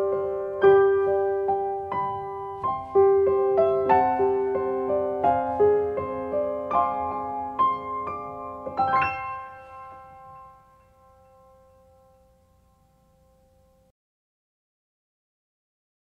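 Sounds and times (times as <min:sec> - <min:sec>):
gentle piano melody: 0:00.0 - 0:13.9.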